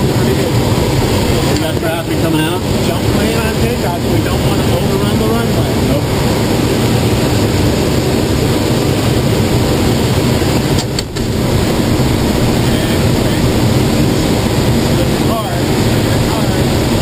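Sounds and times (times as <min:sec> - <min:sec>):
airflow rushing over glider: 0:00.0 - 0:17.0
wind buffeting microphone: 0:00.0 - 0:17.0.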